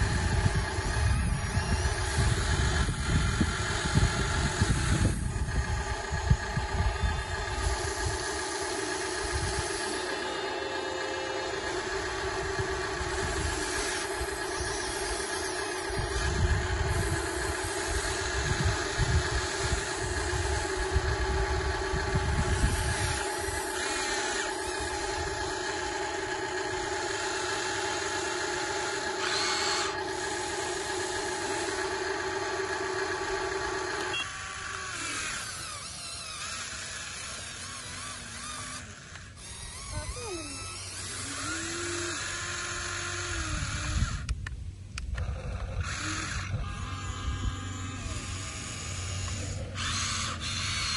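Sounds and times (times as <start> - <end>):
toy electric motors whining: 0.0 - 50.9.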